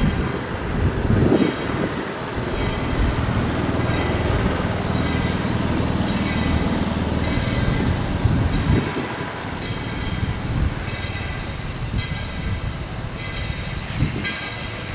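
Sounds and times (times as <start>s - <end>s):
steam locomotive rumble: 0.0s - 14.9s.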